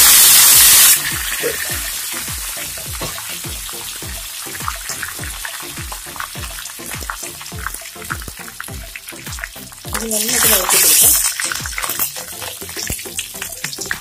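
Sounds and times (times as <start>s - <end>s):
music with low beat: 0.0s - 14.0s
oil popping: 0.0s - 14.0s
spices sizzling in hot oil: 0.0s - 14.0s.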